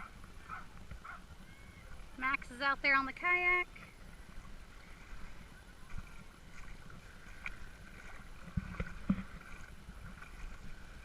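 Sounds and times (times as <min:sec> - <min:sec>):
faint lakeside ambience: 0:00.0 - 0:11.0.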